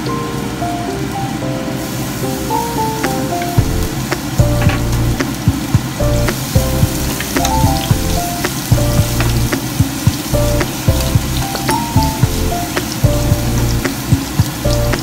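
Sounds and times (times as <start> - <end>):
slow background music: 0.0 - 15.0
garlic and onion sizzling in oil: 1.8 - 15.0.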